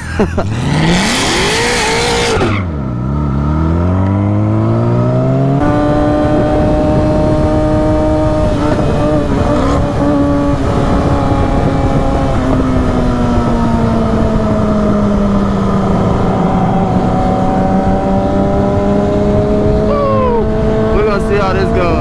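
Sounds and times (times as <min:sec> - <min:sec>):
car engine drone: 0:00.0 - 0:22.0.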